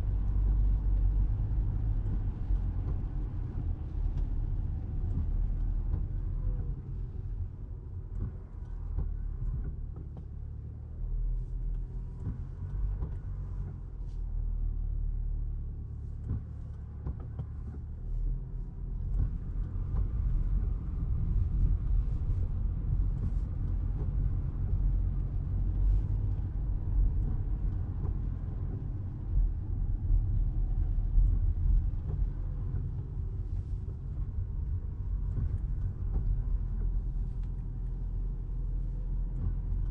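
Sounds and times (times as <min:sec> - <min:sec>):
car rumble on wet road: 0:00.0 - 0:39.9.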